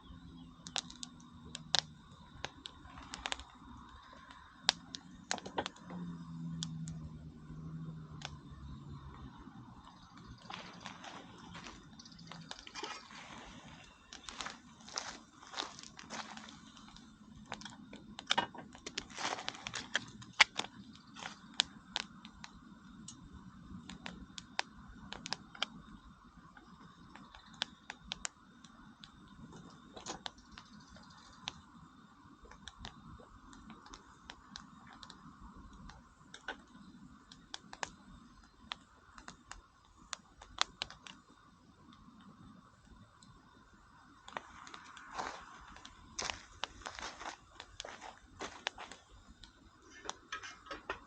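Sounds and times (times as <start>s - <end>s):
campfire crackling: 0.0s - 51.0s.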